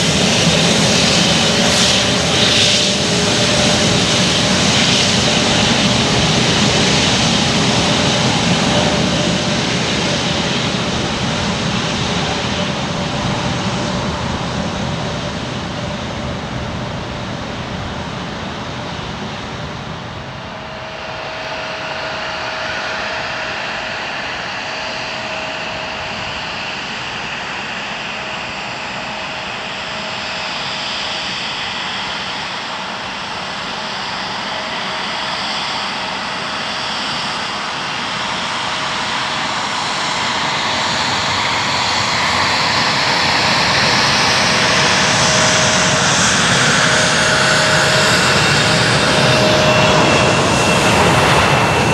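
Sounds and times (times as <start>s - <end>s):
jet rumble with whine: 0.0s - 51.9s.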